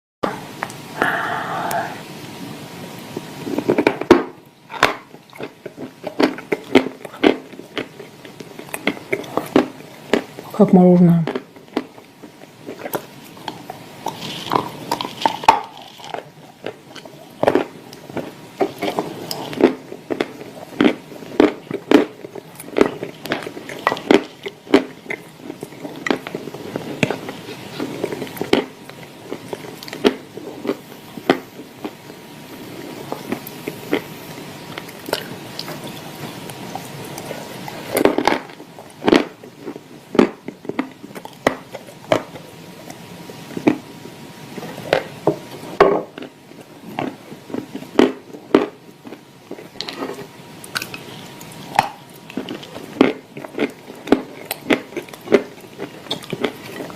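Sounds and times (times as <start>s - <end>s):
clay being chewed crunching: 4.7s - 10.5s, 11.3s - 43.9s, 46.1s - 56.9s.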